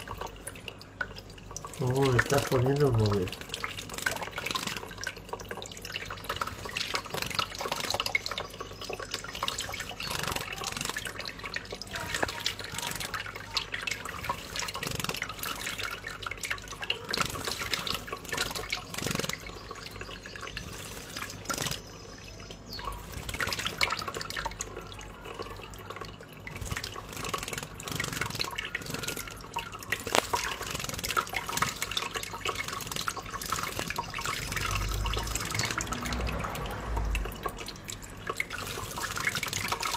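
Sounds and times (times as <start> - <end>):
small bird bathing splashes: 0.0 - 39.9
water splashing into cupped hands: 0.0 - 39.9.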